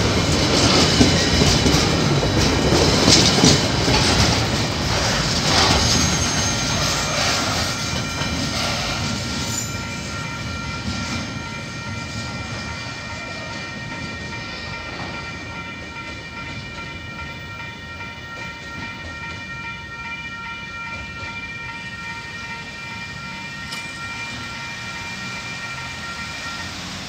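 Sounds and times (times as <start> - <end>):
freight train wheels clattering: 0.0 - 27.0.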